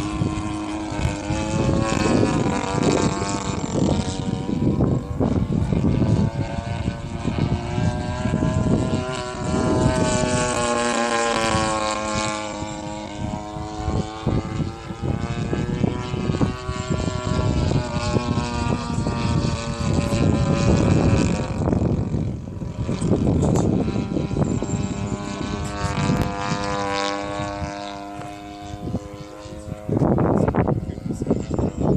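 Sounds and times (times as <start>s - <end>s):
model plane engine with propeller: 0.0s - 31.9s.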